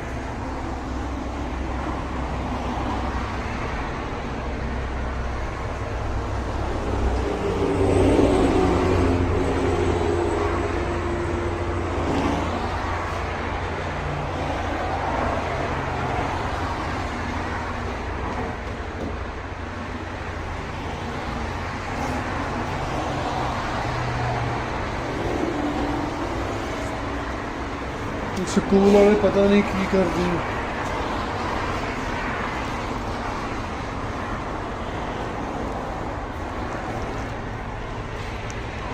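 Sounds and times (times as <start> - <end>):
car engine drone: 0.0 - 38.9
road traffic noise: 0.0 - 38.9.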